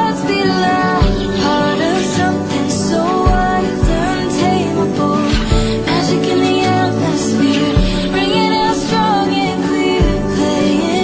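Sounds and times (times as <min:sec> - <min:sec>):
instrumental backing: 0:00.0 - 0:11.0
person singing: 0:00.0 - 0:11.0.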